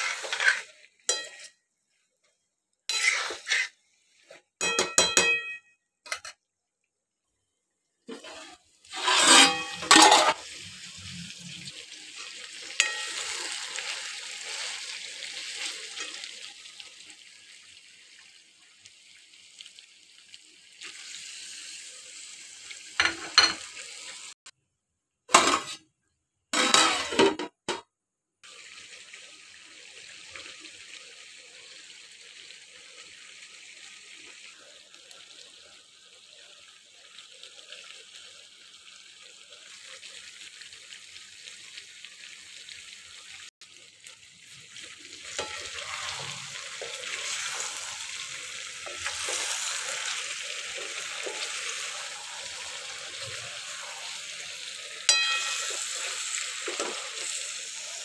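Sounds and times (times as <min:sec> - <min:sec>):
curry sizzling in a pan: 0:00.0 - 0:05.3, 0:07.3 - 0:24.4, 0:28.4 - 0:58.0.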